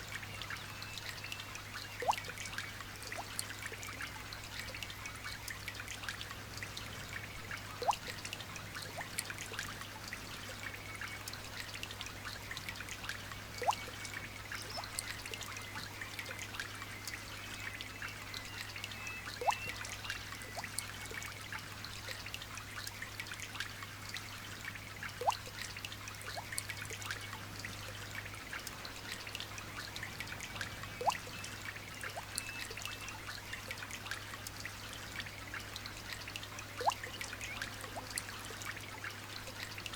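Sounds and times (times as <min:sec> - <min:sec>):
light rain pattering: 0:00.0 - 0:39.9
water trickling: 0:00.0 - 0:39.9.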